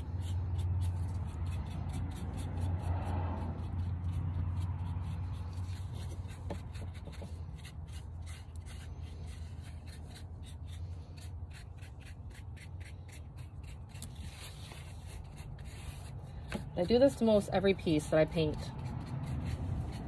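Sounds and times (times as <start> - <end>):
paintbrush dry-brushing concrete: 0.0 - 20.0.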